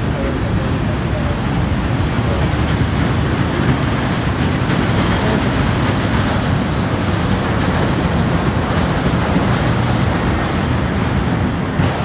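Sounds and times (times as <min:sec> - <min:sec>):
train cars rattling: 0:00.0 - 0:12.0
train wheels on rails: 0:00.0 - 0:12.0.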